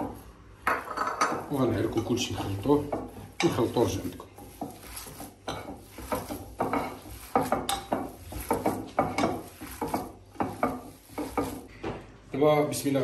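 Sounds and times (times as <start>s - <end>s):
hands kneading filling in dish: 0.0s - 12.3s.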